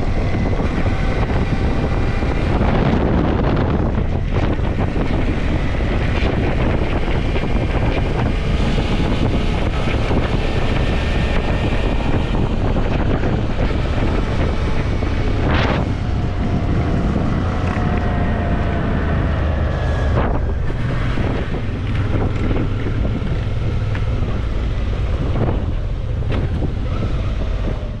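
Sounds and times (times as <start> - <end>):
motorcycle rumble: 0.0 - 28.0
wind buffeting microphone: 0.0 - 28.0.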